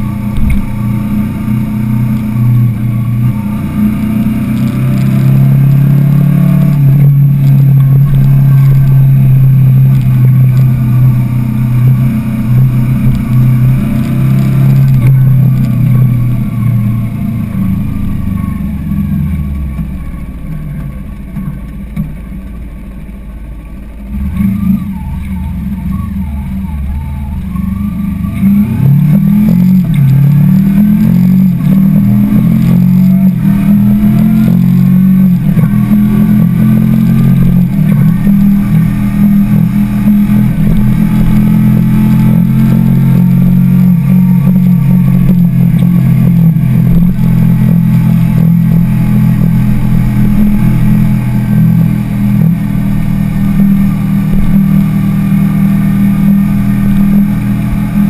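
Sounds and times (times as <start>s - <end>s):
motorcycle engine revving: 0.0s - 23.1s, 23.8s - 58.0s.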